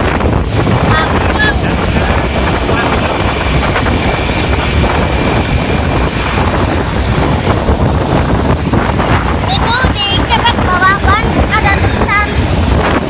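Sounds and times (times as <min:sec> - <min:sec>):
bus engine rumbling: 0:00.0 - 0:13.0
wind buffeting microphone: 0:00.0 - 0:13.0.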